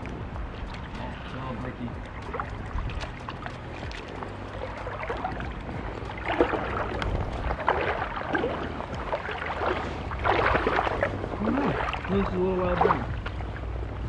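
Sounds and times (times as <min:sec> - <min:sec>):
low rumble: 0:00.0 - 0:14.0
stream water splashing: 0:00.0 - 0:14.0.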